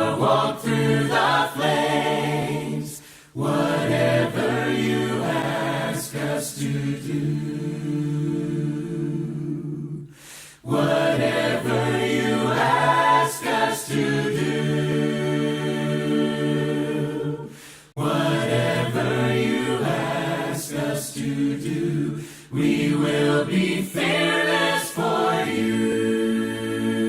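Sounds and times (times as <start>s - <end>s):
choir singing held notes: 0.0s - 27.0s.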